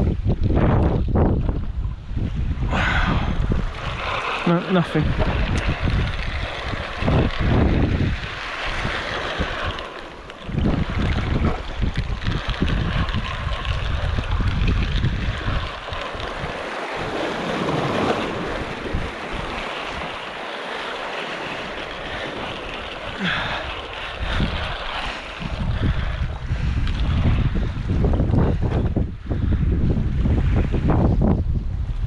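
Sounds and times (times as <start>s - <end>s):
sea waves breaking on rocks: 0.0s - 31.2s
wind buffeting microphone: 0.0s - 32.0s.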